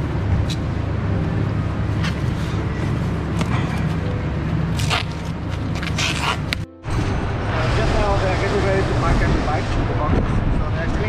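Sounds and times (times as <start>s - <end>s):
low factory hum: 0.0s - 11.0s.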